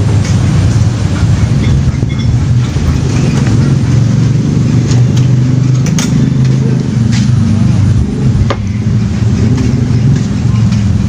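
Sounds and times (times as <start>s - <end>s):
loud low engine hum: 0.0s - 11.0s.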